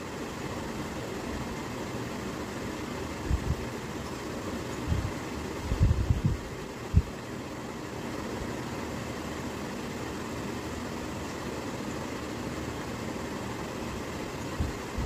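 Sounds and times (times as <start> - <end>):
fan hum and hiss: 0.0 - 15.0.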